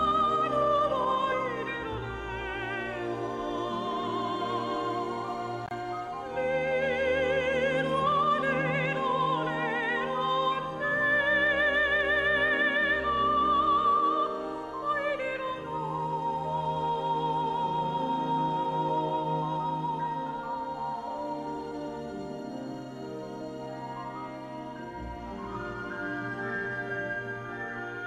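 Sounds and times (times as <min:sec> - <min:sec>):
opera-style singing: 0:00.0 - 0:28.0.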